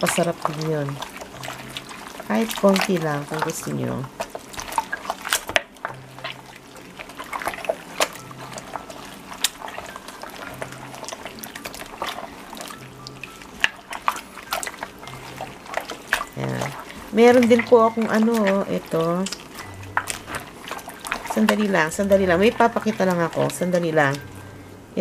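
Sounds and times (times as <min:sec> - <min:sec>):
small clicks and splashes: 0:00.0 - 0:24.6
meat squishing in marinade: 0:00.0 - 0:25.0.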